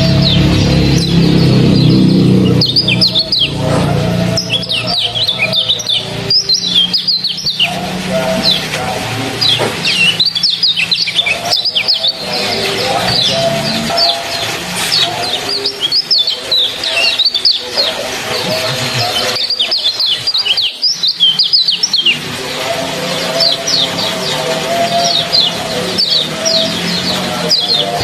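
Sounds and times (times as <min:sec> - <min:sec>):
low steady drone: 0:00.0 - 0:28.0
songbird rapid chirps: 0:00.0 - 0:28.0
trickling water: 0:00.0 - 0:28.0.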